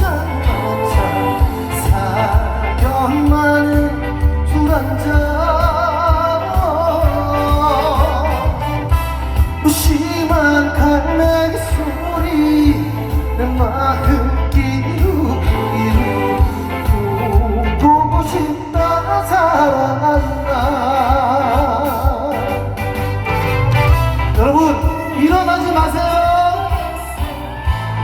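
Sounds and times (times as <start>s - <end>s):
person singing with vibrato: 0.0s - 28.0s
pulsing bass beat: 0.0s - 28.0s.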